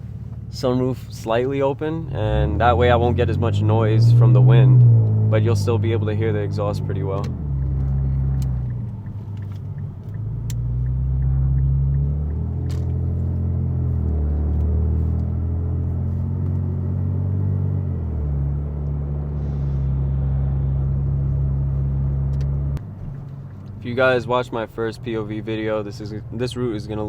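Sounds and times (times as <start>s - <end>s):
car exhaust droning: 0.0s - 27.0s.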